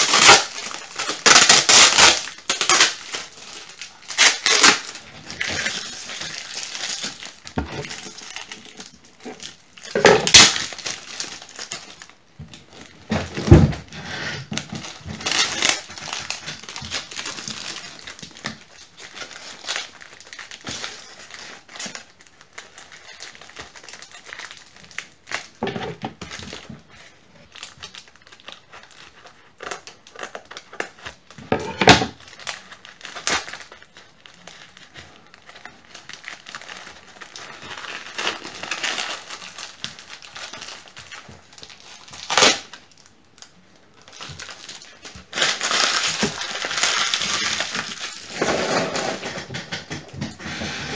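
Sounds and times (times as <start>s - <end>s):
plastic wrapping crinkling and tearing: 0.0s - 50.9s.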